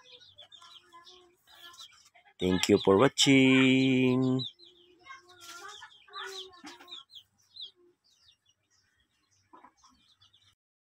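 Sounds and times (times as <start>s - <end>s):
chickens chirping: 0.0s - 10.6s.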